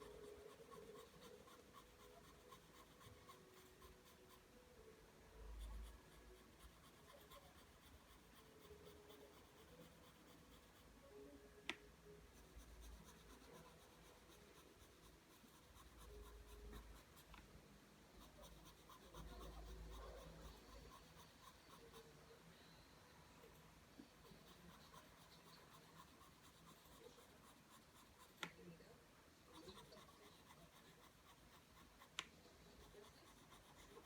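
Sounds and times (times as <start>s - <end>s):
pencil scratching on paper: 0.0s - 4.6s, 5.3s - 11.0s, 12.0s - 17.5s, 18.2s - 22.4s, 23.4s - 28.6s, 29.5s - 34.0s.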